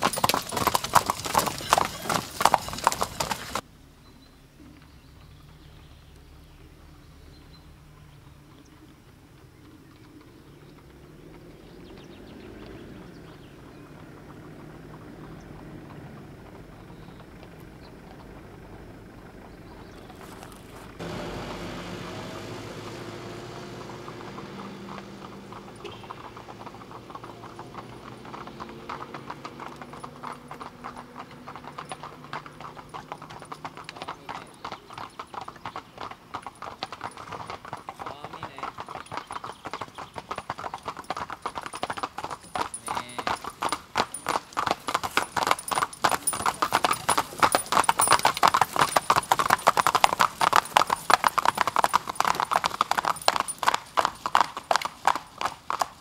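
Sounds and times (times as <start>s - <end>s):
horses clip-clopping on asphalt: 0.0s - 3.7s, 4.6s - 21.2s, 23.6s - 56.0s.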